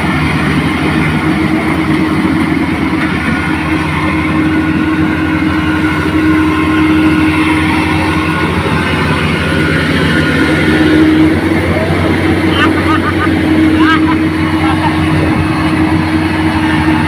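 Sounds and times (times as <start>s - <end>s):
harvester engine droning: 0.0s - 17.0s.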